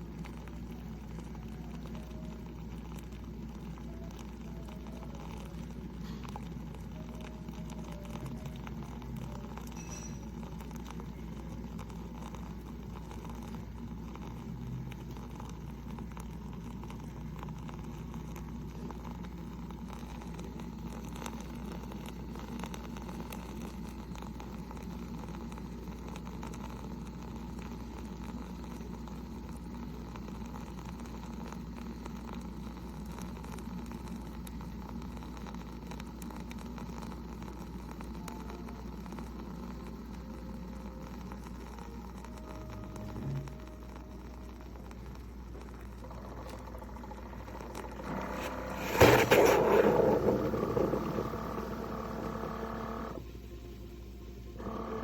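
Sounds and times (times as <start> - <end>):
coffee maker humming: 0.0 - 55.0.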